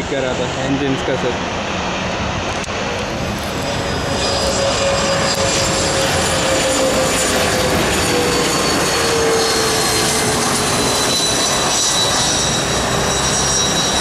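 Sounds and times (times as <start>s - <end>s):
jet engines roaring and whining: 0.0s - 14.0s.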